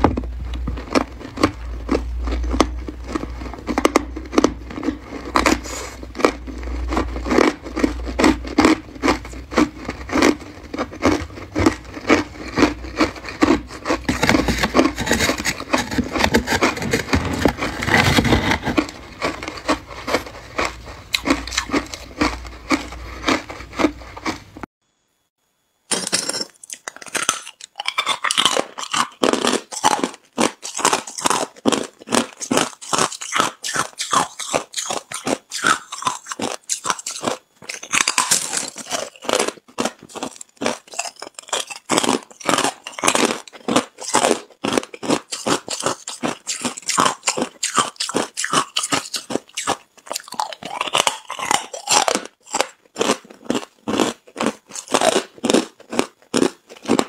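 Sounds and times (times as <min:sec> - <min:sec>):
crunching and chewing ice: 0:00.0 - 0:24.7, 0:26.0 - 0:57.0.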